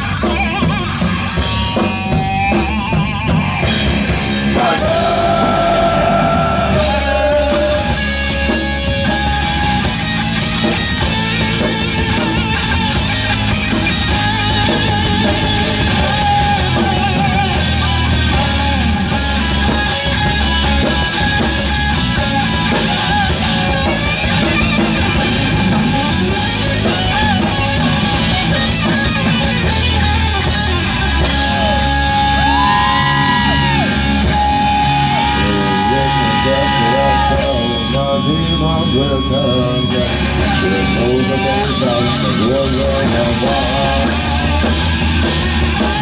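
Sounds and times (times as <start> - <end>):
heavy metal electric guitar solo: 0.0 - 46.0.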